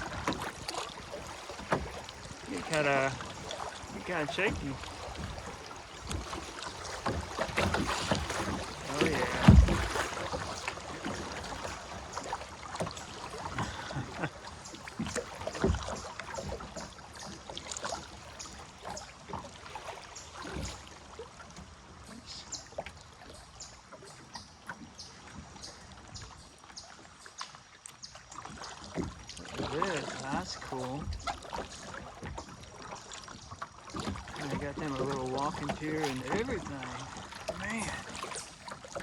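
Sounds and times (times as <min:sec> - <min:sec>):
small knocks on hull: 0:00.0 - 0:20.9, 0:28.2 - 0:39.0
kayak paddle strokes: 0:00.0 - 0:39.0
water splashing and gurgling: 0:00.0 - 0:39.0.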